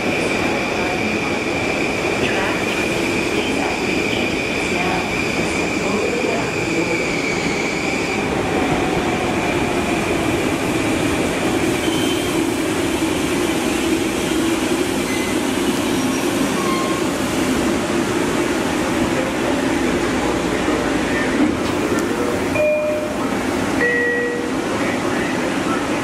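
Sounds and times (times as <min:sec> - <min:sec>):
train equipment hum and hiss: 0:00.0 - 0:26.0.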